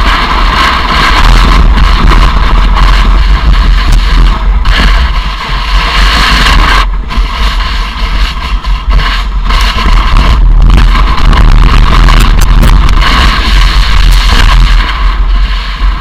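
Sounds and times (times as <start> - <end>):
hiss of skiing through powder snow: 0.0 - 16.0
wind buffeting microphone: 0.0 - 16.0.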